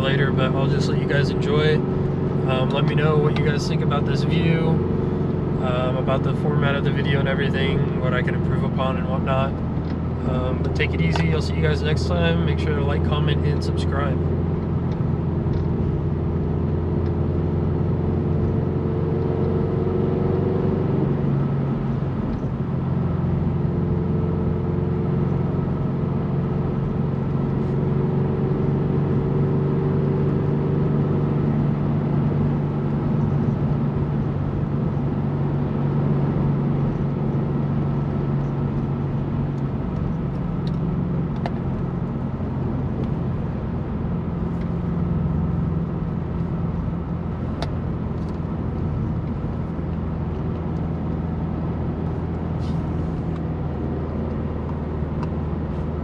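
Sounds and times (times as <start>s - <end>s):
car engine cruising: 0.0s - 56.0s
road noise: 0.0s - 56.0s.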